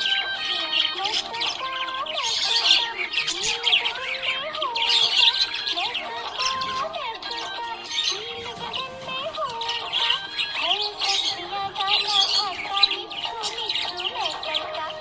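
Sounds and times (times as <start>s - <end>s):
budgerigars chirping and squawking: 0.0s - 15.0s.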